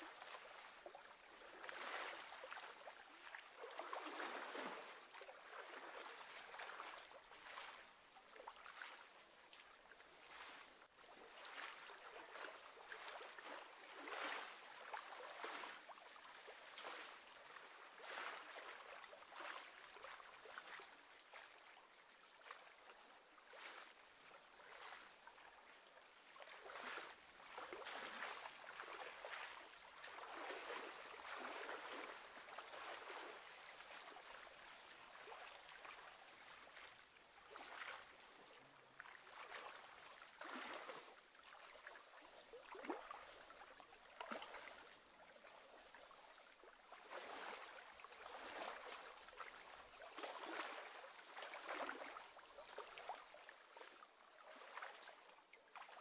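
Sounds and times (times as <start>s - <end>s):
small waves lapping: 0.0s - 56.0s.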